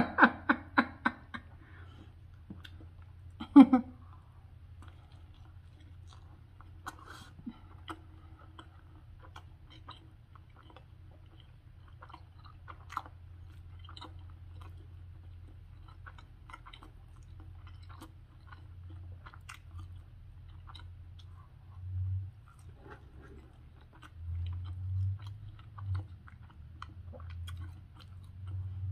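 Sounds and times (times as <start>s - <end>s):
steady low hum: 0.0s - 28.9s
person chewing food: 1.3s - 28.9s.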